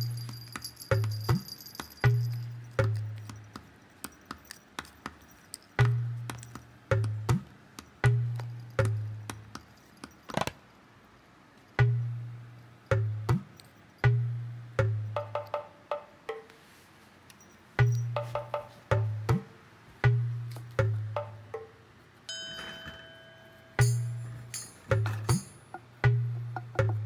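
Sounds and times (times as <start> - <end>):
light percussive music: 0.0 - 10.3, 11.8 - 16.7, 17.7 - 27.0.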